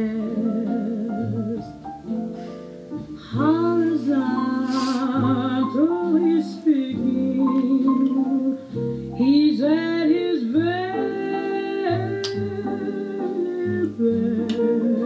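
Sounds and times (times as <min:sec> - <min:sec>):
woman singing: 0:00.0 - 0:01.8, 0:03.2 - 0:15.0.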